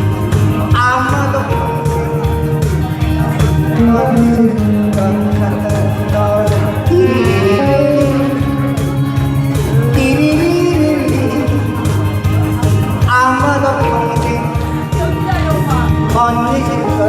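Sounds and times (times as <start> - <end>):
bass and beat: 0.0 - 17.0
guitar melody: 0.0 - 17.0.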